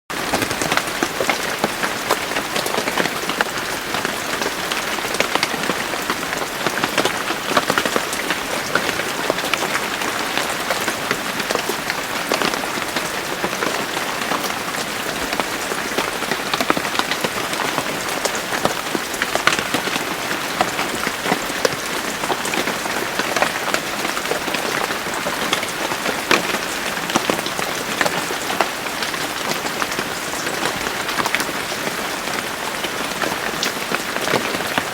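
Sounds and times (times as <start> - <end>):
rain pattering on a surface: 0.1 - 34.9.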